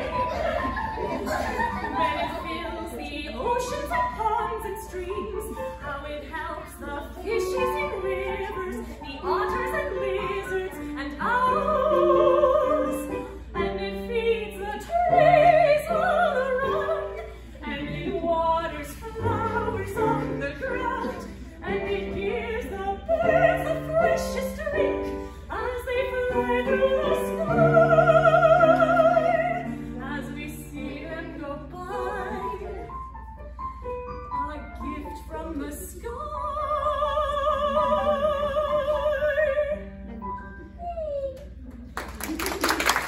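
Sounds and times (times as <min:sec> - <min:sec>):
woman singing opera: 0:01.9 - 0:33.0, 0:34.3 - 0:41.7.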